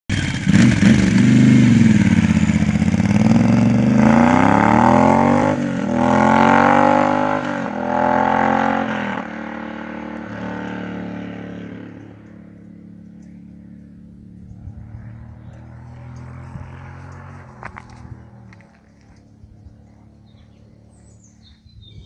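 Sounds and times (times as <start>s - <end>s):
motorcycle accelerating with upshifts: 0.1s - 21.6s.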